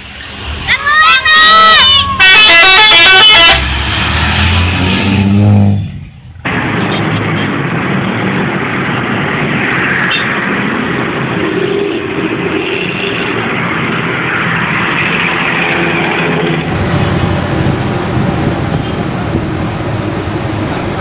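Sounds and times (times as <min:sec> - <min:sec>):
diesel bus engine running: 0:00.0 - 0:21.0.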